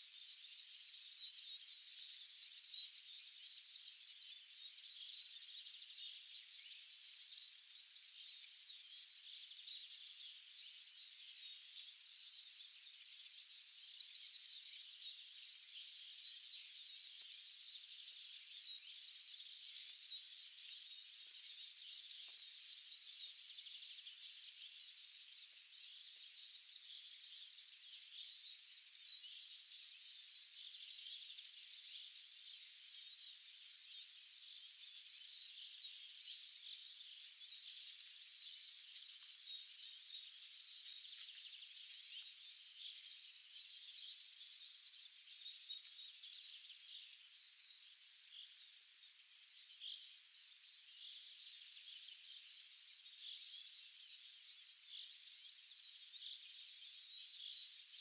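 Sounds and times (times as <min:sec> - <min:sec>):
chorus of songbirds: 0:00.0 - 0:58.0.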